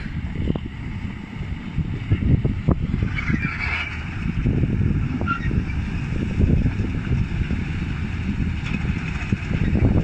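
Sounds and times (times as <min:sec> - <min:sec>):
diesel truck engine rumble: 0:00.0 - 0:10.0.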